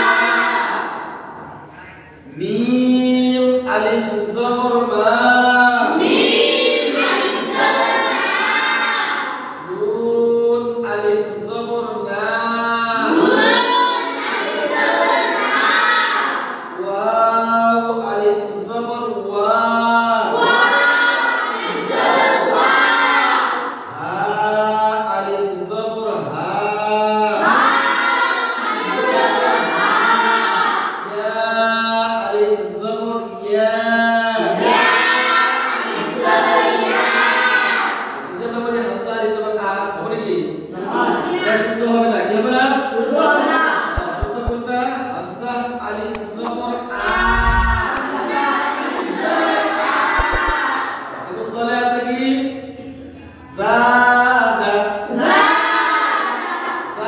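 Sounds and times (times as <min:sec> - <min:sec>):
boys chanting in unison: 0:00.0 - 0:57.0.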